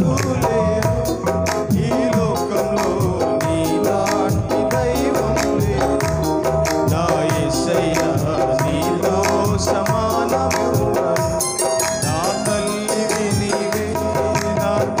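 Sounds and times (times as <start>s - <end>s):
electronic keyboard playing: 0.0s - 15.0s
quick steady percussion beat: 0.0s - 15.0s.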